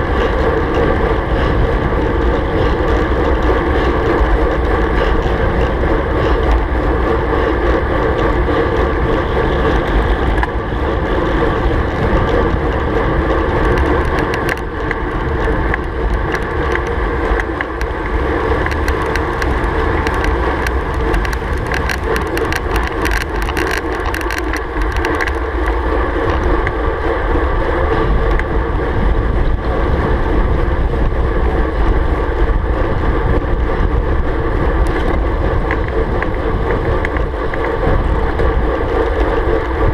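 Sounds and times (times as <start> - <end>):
quick ticks and rattles: 0.0 - 39.9
road and tyre noise: 0.0 - 39.9
wind rushing over camera: 0.0 - 39.9.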